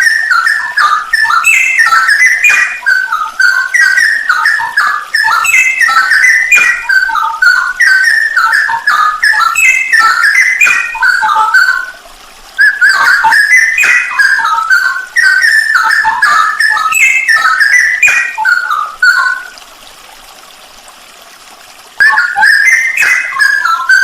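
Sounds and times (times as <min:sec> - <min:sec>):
bulbul singing whistled warbles: 0:00.0 - 0:19.6, 0:22.0 - 0:24.0.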